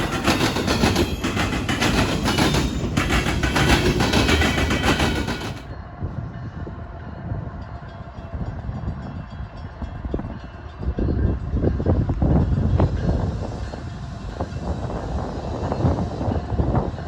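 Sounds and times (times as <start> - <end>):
train wheels clattering on rail: 0.0 - 5.8, 8.1 - 17.0.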